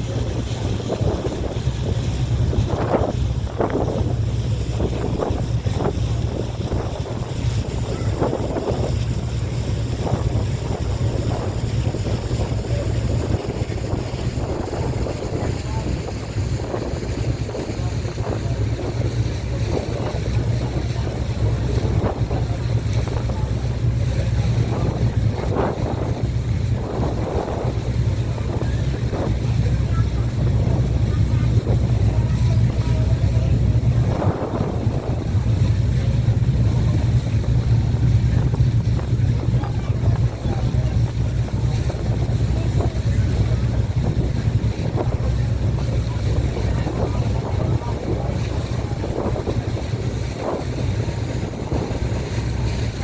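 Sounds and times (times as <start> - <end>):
motor boat engine drone: 0.0 - 53.0
water rushing around hull: 0.0 - 53.0
wind buffeting microphone: 0.0 - 53.0.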